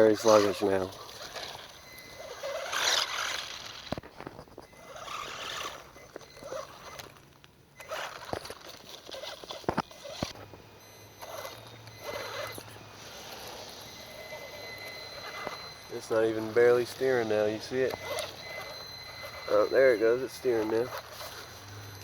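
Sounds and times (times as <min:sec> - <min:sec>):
toy truck motor and tires: 0:00.0 - 0:22.0.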